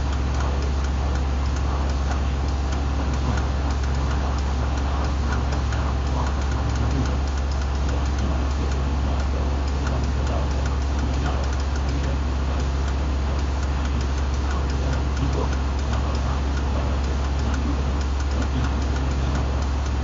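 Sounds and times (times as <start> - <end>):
rapid fine ticking: 0.0 - 20.0
vibration table humming: 0.0 - 20.0.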